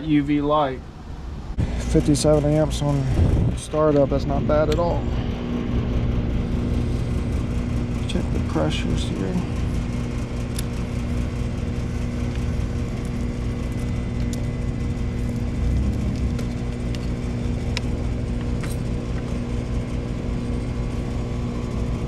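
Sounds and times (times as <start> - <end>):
compressor hum: 0.0 - 22.0
condenser fan rushing: 0.0 - 22.0.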